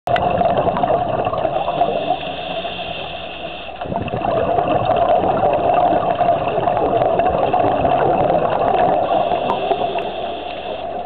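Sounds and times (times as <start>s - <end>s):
steady hum: 0.1s - 11.0s
underwater bubbling: 0.1s - 11.0s.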